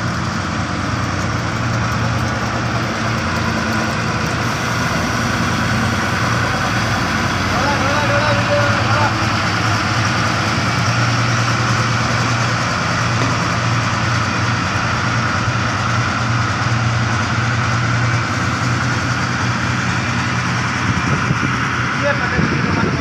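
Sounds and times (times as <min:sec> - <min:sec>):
road roller engine droning: 0:00.0 - 0:23.0.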